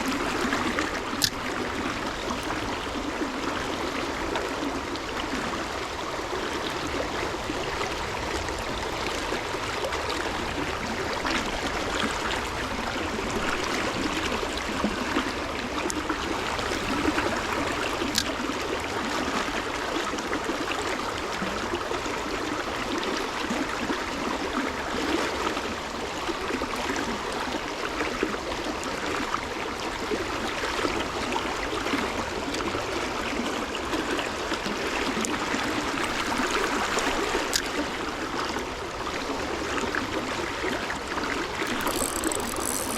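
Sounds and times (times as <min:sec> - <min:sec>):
stream rushing and gurgling: 0:00.0 - 0:42.9.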